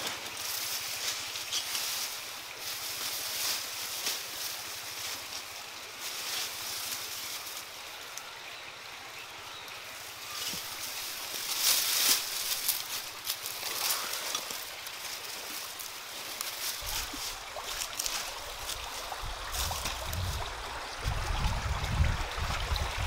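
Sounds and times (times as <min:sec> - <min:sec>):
dry grass and leaves crackling: 0:00.0 - 0:23.0.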